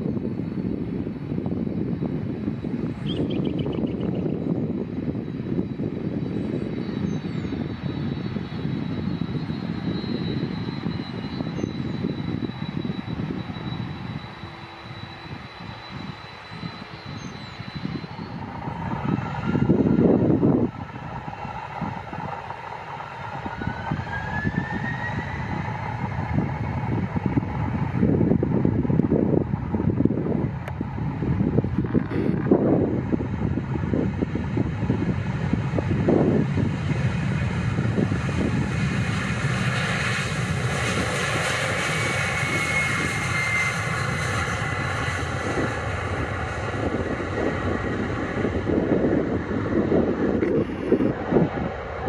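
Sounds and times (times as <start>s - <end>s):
jet engines rumbling and whining: 0.0s - 52.0s.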